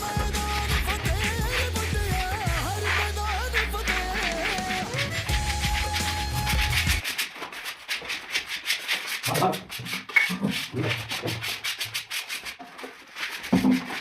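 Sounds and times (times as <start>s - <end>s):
rapid rubbing strokes: 0.0s - 14.0s.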